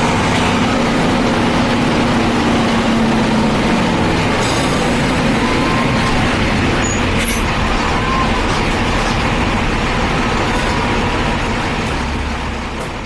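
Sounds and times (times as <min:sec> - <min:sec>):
diesel bus engine running: 0:00.0 - 0:13.0.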